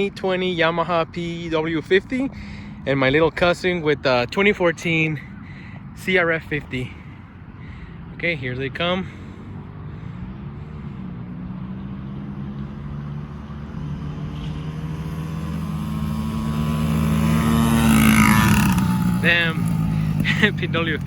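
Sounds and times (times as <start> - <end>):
dirt bike engines at full throttle: 0.0 - 21.0.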